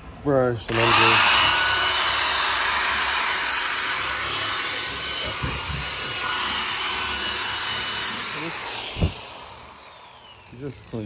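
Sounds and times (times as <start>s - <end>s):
faint motor whine: 0.7s - 11.0s
spinning brush scrubbing carpet: 0.7s - 11.0s.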